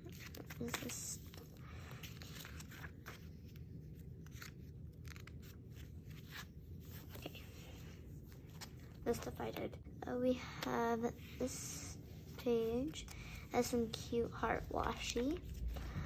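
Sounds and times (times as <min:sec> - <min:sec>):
paper pages rustling: 0:00.0 - 0:09.6, 0:12.6 - 0:16.0.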